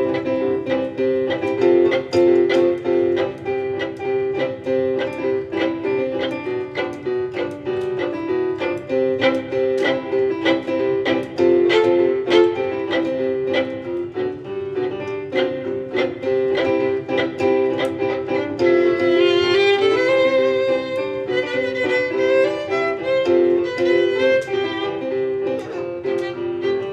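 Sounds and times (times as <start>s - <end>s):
piano and plucked strings music: 0.0s - 26.9s.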